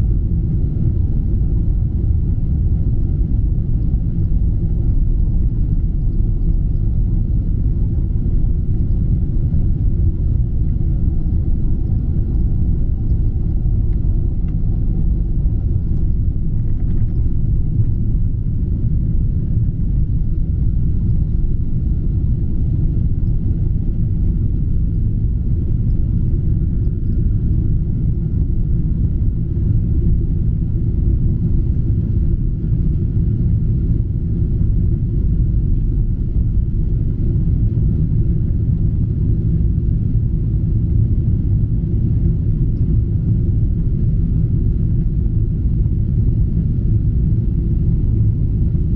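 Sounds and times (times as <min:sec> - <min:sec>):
faint steady engine whine: 0:00.0 - 0:48.9
jet engines rumbling in cabin: 0:00.0 - 0:48.9.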